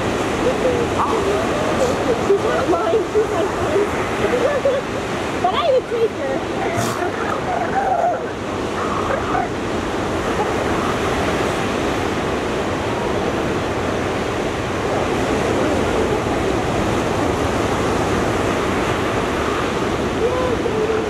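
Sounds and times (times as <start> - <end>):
ocean surf rushing: 0.0 - 21.0
wind: 0.0 - 21.0.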